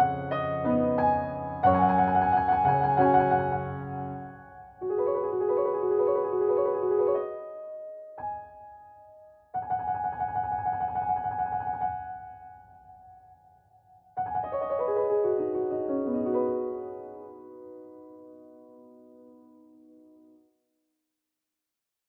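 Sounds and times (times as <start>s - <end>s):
piano music: 0.0s - 13.4s, 14.1s - 20.3s.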